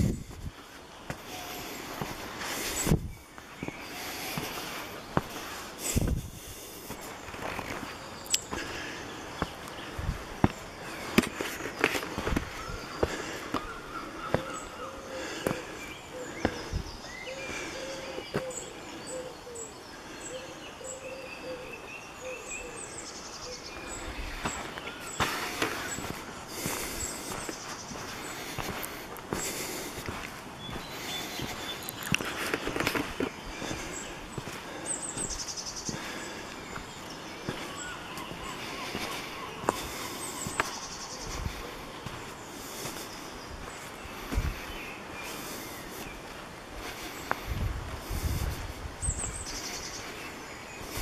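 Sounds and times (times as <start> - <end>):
footsteps on path: 0.0 - 19.1, 22.8 - 51.0
background hiss: 0.0 - 51.0
small birds singing: 0.0 - 51.0.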